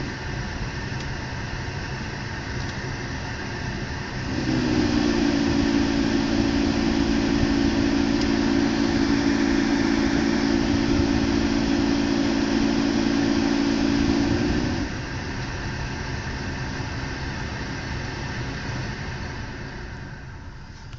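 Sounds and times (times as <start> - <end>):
low drone of close tones: 0.0 - 20.9.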